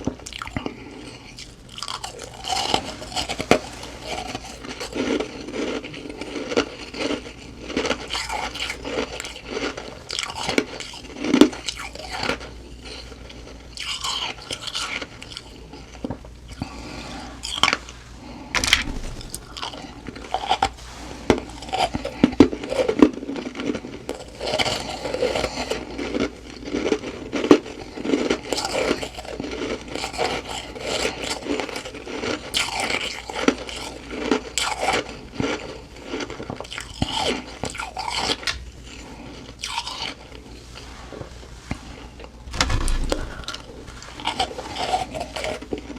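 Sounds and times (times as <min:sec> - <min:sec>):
crunching and chewing ice: 0:00.0 - 0:45.9.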